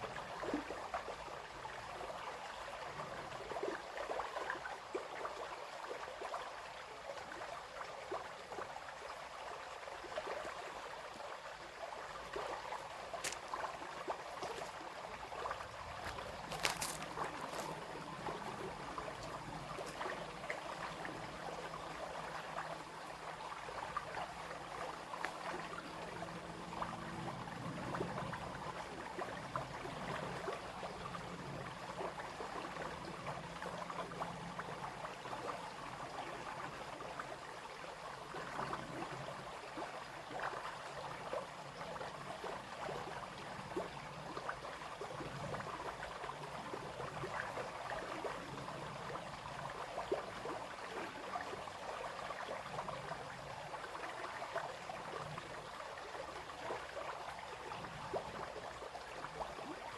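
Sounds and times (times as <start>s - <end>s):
brook flowing and trickling: 0.0s - 59.9s.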